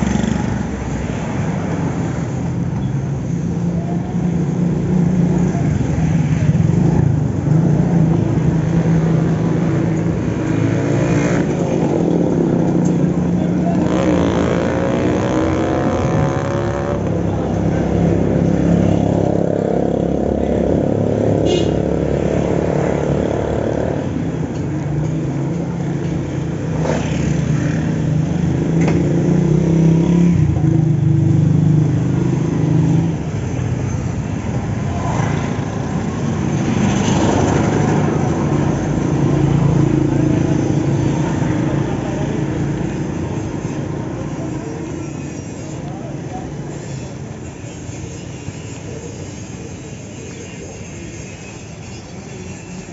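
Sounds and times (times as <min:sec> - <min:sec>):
road and wind noise: 0:00.0 - 0:52.9.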